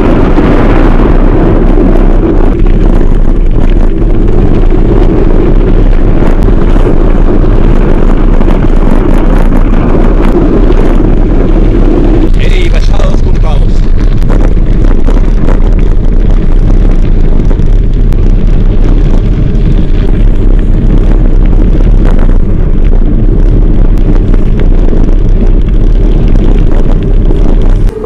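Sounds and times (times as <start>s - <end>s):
bike tyres rumbling on gravel: 0.0s - 28.0s
wind buffeting microphone: 0.0s - 28.0s.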